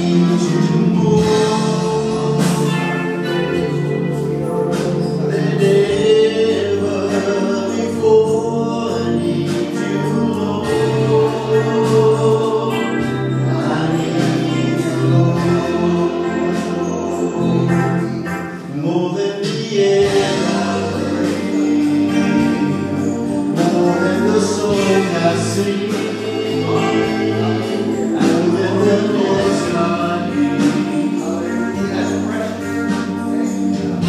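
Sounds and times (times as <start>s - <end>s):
gospel worship music with singing: 0.0s - 34.0s.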